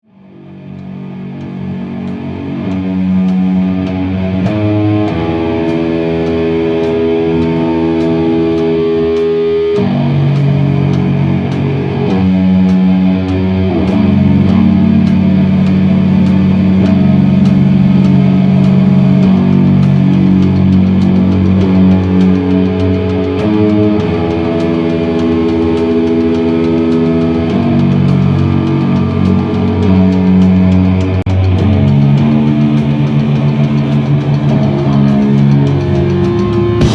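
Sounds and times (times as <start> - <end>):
bass line: 0.0 - 36.9
electric guitar with effects: 0.0 - 36.9.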